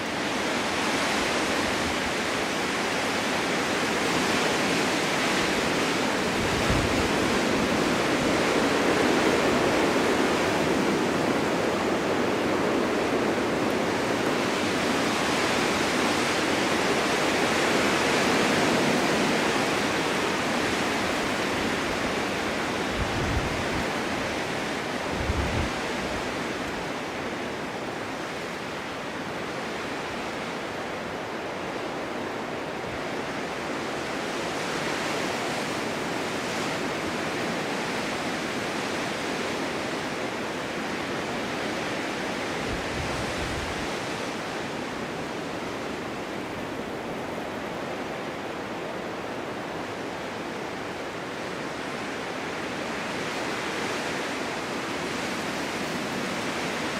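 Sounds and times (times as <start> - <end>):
snowstorm wind blowing: 0.0 - 56.9.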